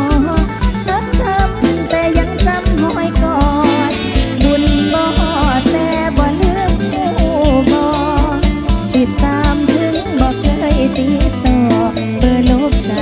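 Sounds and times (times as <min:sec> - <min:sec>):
live band music: 0:00.0 - 0:13.0
drum kit beat: 0:00.2 - 0:13.0.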